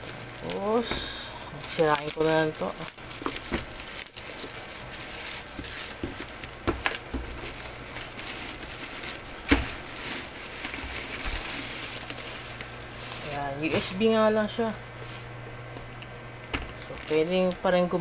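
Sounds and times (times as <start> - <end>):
plastic film crinkling: 0.0 - 15.4, 16.4 - 18.0.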